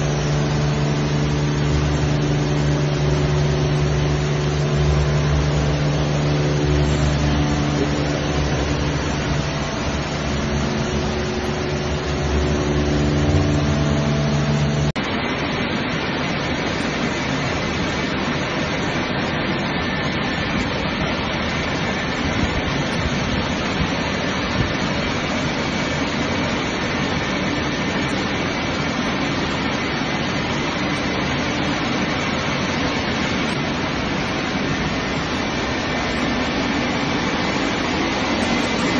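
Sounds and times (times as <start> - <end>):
car wash machinery humming: 0.0 - 38.9
rotating wash brushes: 0.0 - 38.9.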